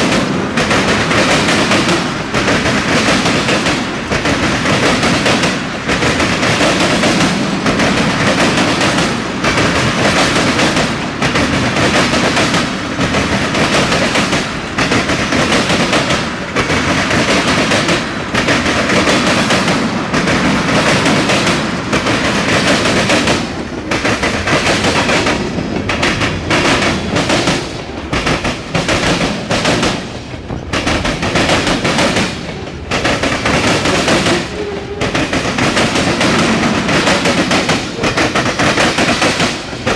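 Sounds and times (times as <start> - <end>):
freight train cars rattling past: 0.0 - 39.9.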